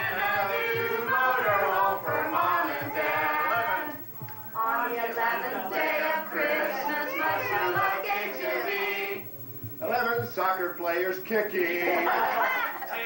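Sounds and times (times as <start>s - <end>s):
group singing a carol: 0.0s - 9.4s, 11.2s - 13.0s
people chattering: 0.0s - 13.0s.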